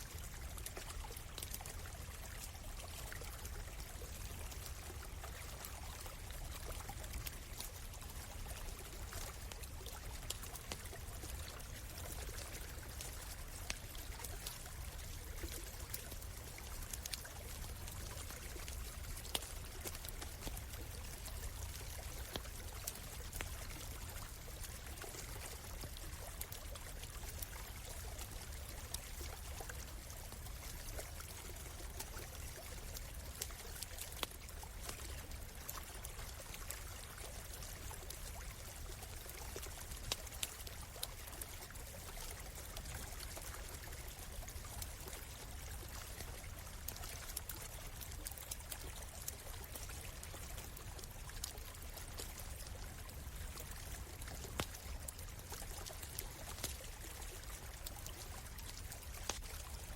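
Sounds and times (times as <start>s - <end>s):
stream flowing and trickling: 0.0s - 59.9s
campfire crackling and popping: 0.2s - 36.8s, 37.4s - 59.7s.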